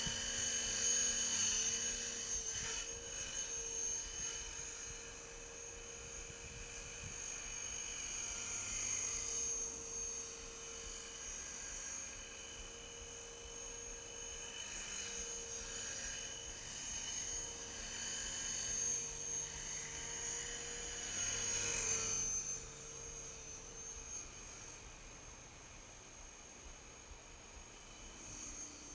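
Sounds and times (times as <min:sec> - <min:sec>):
rc helicopter motor whine: 0:00.0 - 0:28.9.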